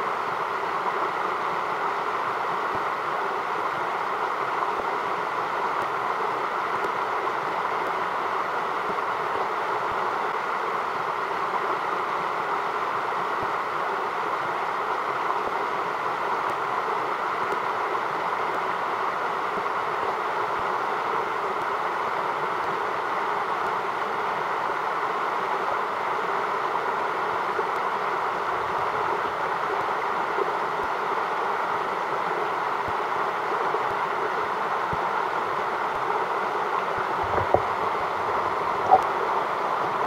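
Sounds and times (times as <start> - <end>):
creek water rushing: 0.0 - 40.0.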